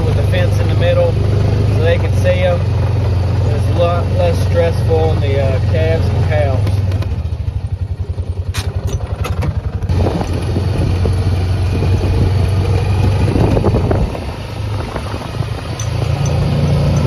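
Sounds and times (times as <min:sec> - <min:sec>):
engine rattling: 0:00.0 - 0:17.0
tractor diesel engine running: 0:00.0 - 0:17.0.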